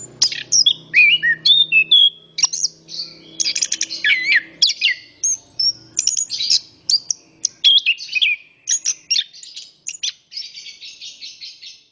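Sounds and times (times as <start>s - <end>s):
thrush singing: 0.0s - 9.8s.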